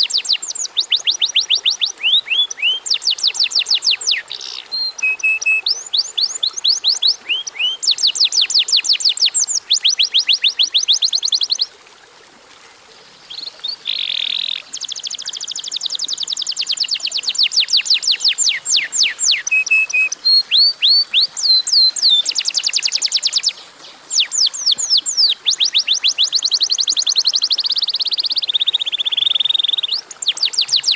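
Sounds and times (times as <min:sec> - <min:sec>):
canary singing trills: 0:00.0 - 0:11.7, 0:13.3 - 0:30.9.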